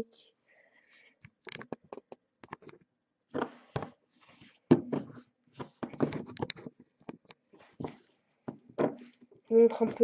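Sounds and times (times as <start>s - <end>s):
handling rustles clicks and knocks: 1.3s - 10.0s.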